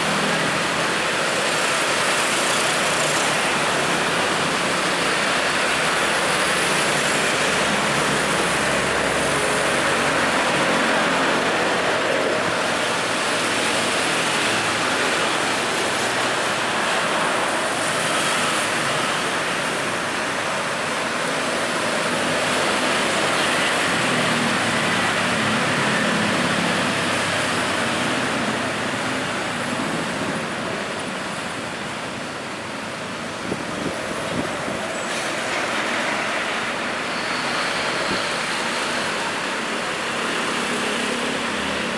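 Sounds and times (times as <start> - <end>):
busy road traffic: 0.0 - 41.9.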